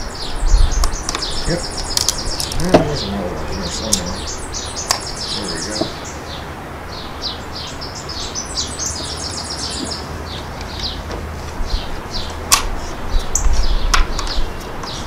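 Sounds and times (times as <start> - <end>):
low wind rumble: 0.0 - 15.0
small songbirds chirping: 0.0 - 15.0.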